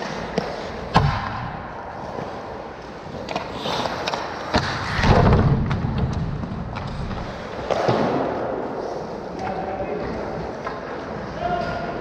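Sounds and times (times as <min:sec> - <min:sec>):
stick and puck clacks: 0:00.0 - 0:08.6, 0:09.3 - 0:11.3.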